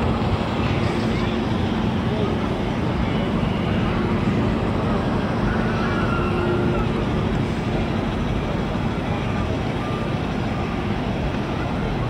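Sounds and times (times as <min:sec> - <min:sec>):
distant town traffic: 0:00.0 - 0:12.0
faint indistinct voices: 0:00.0 - 0:12.0.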